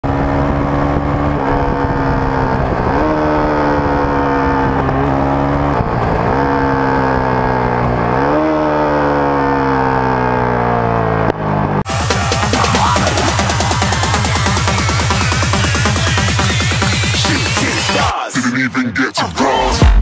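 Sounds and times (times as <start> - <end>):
motorcycle engine running: 0.0 - 18.1.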